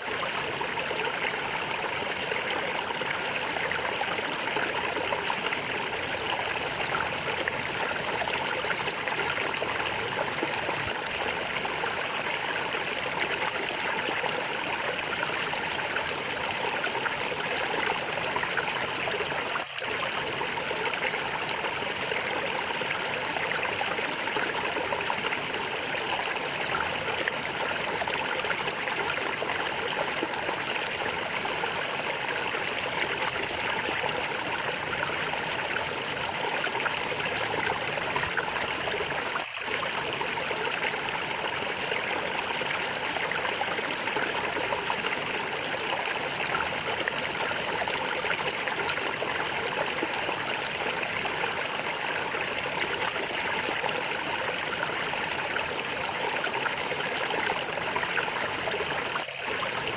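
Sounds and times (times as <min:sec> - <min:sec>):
stream gurgling and trickling: 0:00.0 - 0:59.9.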